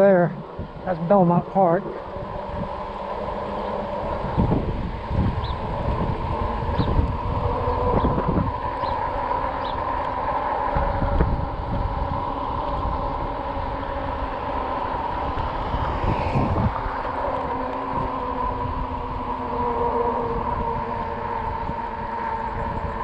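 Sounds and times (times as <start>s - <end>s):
electric motor whine: 0.0s - 23.0s
wind buffeting microphone: 0.0s - 23.0s.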